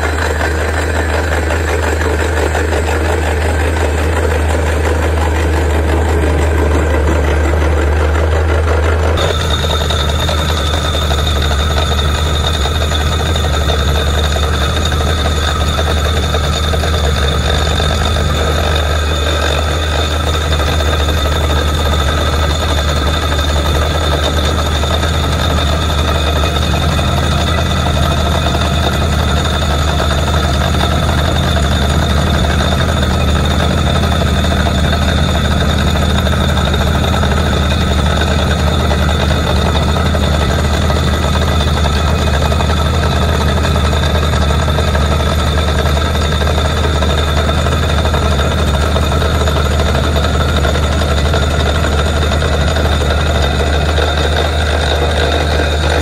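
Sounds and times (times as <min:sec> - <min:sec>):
drilling rig engine drone: 0:00.0 - 0:56.0
high whine: 0:00.0 - 0:56.0.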